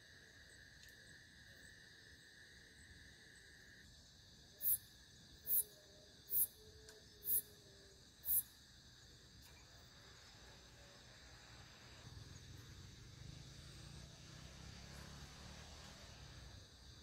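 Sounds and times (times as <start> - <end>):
high-pitched insect chorus: 0.0 - 17.0
loud very high insect chirp: 0.0 - 17.0.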